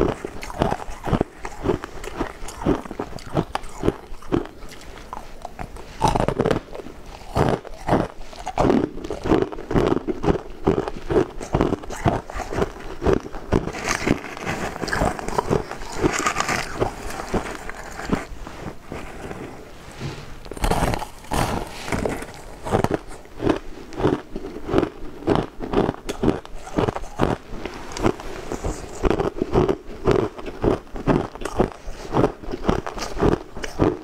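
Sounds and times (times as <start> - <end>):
chewing crushed ice: 0.0 - 19.5, 20.4 - 34.0.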